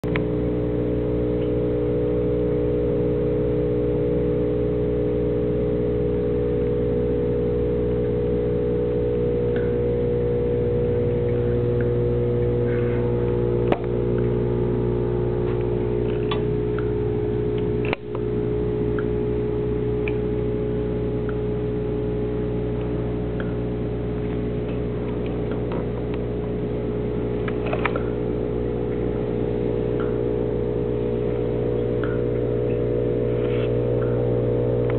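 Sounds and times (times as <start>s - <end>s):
low mechanical hum: 0.0s - 34.9s.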